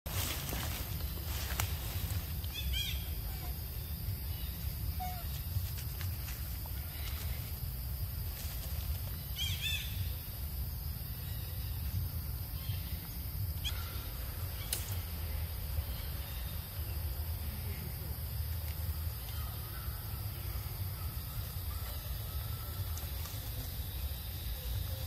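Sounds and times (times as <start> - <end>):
constant high whine: 0.1 - 25.0.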